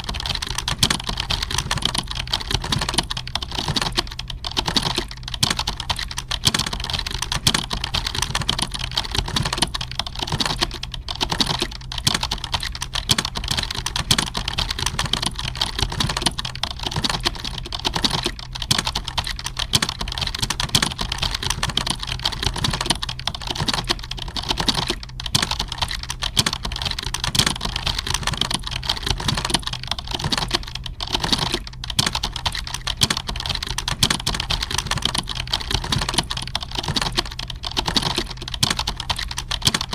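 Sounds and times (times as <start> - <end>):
keyboard typing: 0.0 - 39.9
steady low hum: 0.0 - 39.9.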